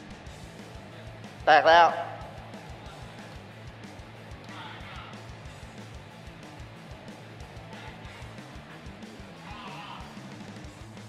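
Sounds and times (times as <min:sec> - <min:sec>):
guitar music with bass beat: 0:00.0 - 0:11.0.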